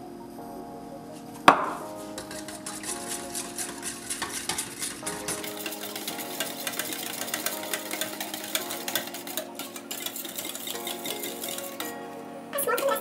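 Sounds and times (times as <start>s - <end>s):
whisk clicking against metal bowl: 2.2s - 13.0s.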